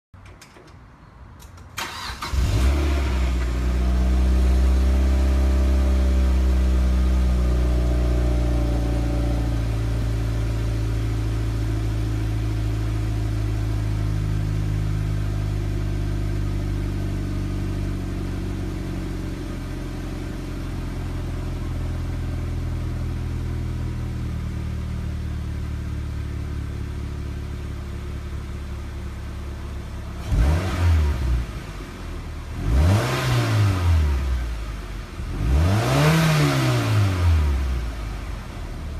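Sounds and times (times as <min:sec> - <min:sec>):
car engine starting: 0:00.2 - 0:38.9
engine idling low burble: 0:03.0 - 0:32.6, 0:37.4 - 0:38.9.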